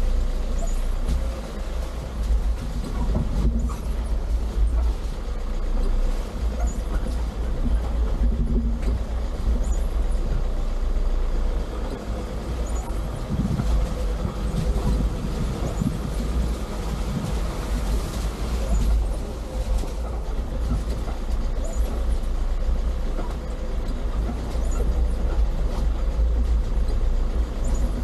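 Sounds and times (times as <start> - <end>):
engine rumble: 0.0 - 28.0
road noise: 0.0 - 28.0.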